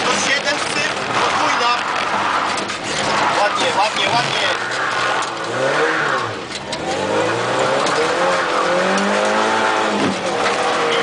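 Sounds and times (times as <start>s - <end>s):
car engine revving hard: 0.0s - 11.0s.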